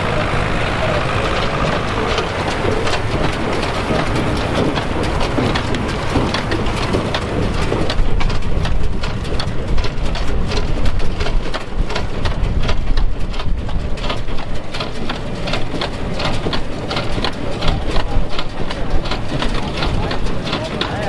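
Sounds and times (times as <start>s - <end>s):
low engine rumble: 0.0s - 21.0s
rattling clicks: 1.3s - 21.0s.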